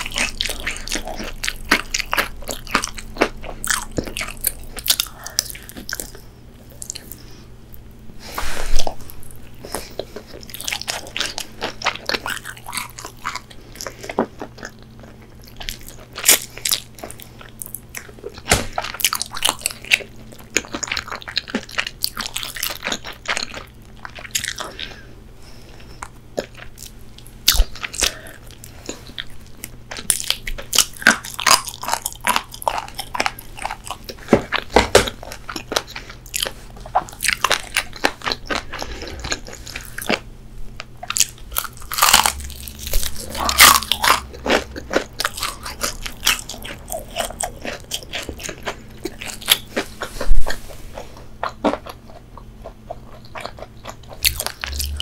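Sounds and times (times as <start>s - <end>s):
crunching and chewing fried chicken: 0.0s - 55.0s.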